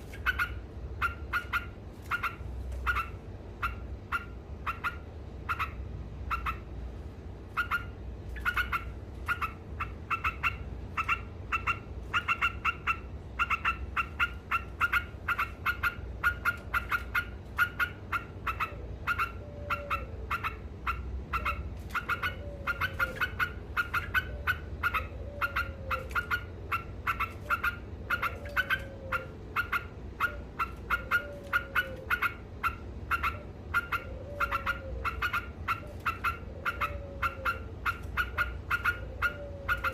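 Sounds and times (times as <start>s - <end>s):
bird rapid chattering call: 0.0s - 6.7s, 7.6s - 39.9s.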